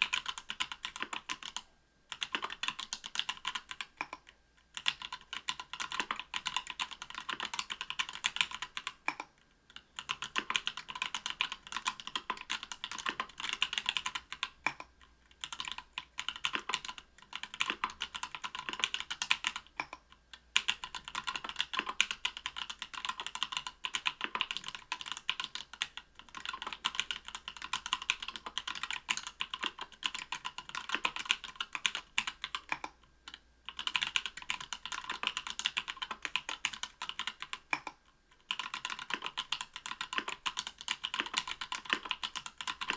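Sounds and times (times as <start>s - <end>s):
typing on mechanical keyboard: 0.0s - 42.9s.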